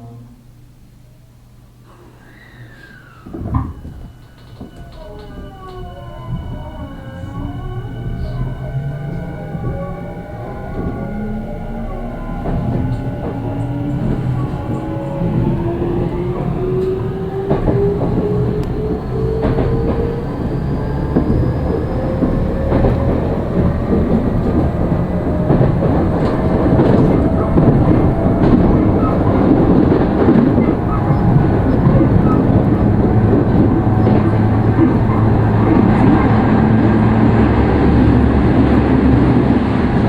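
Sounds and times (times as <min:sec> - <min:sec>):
electric train inverter whine: 0:00.0 - 0:40.0
train motors and wheels running: 0:01.9 - 0:40.0.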